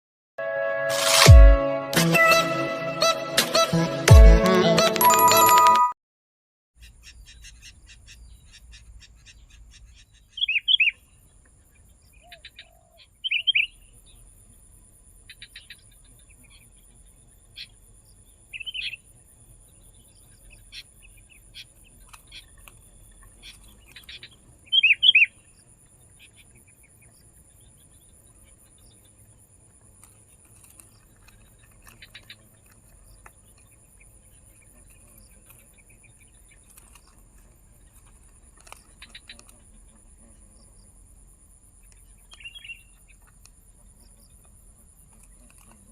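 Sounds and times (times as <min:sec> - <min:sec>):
bird chirping: 0:06.8 - 0:41.0, 0:41.8 - 0:45.9.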